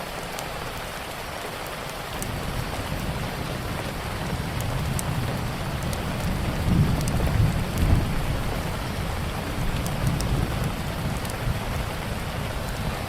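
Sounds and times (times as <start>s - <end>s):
steady rain: 0.0s - 13.0s
wood fire crackling: 1.5s - 13.0s
thunder rumble: 2.1s - 13.0s.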